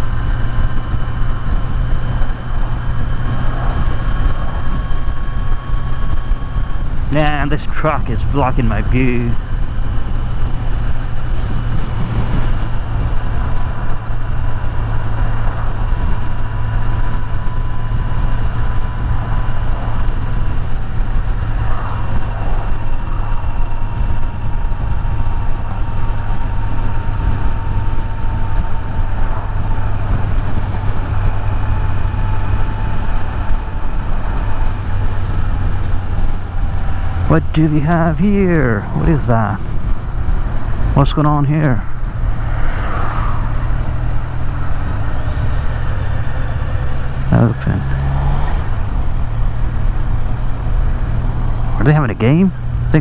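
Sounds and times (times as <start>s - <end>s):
faint high whine: 0.0s - 53.0s
motorcycle engine drone: 0.0s - 53.0s
road and wind noise: 0.0s - 53.0s.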